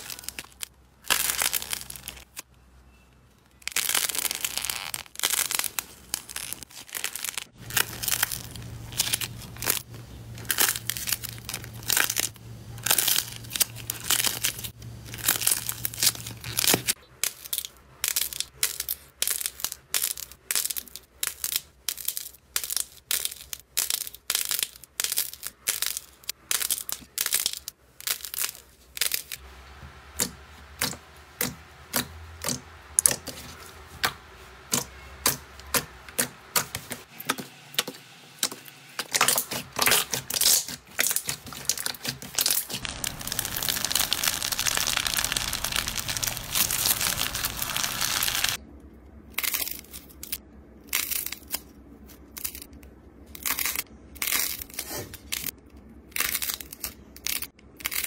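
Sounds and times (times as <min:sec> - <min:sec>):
crackling slime squish: 0:00.0 - 0:02.5, 0:03.5 - 0:29.4, 0:39.0 - 0:48.6, 0:49.3 - 0:58.0.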